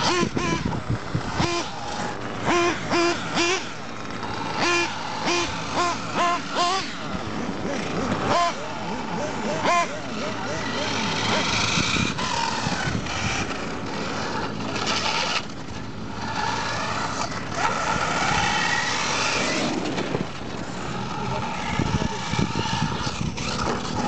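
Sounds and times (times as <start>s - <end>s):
rc truck motor whining: 0.0s - 24.0s.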